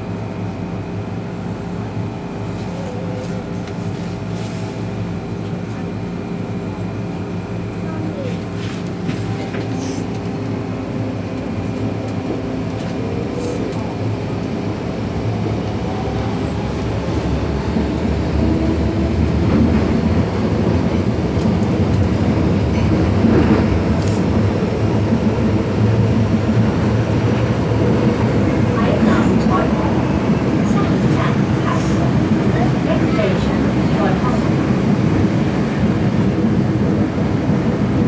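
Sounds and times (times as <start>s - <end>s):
train electric hum: 0.0s - 38.0s.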